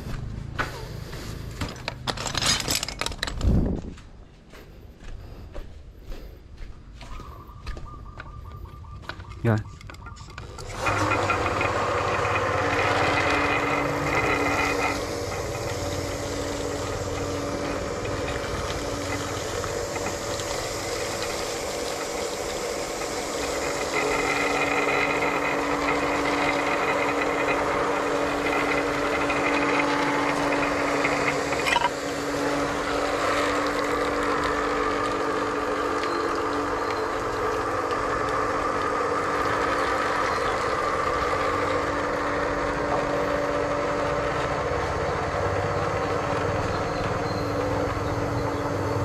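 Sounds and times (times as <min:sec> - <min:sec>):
electric pump motor humming: 0:09.0 - 0:49.0.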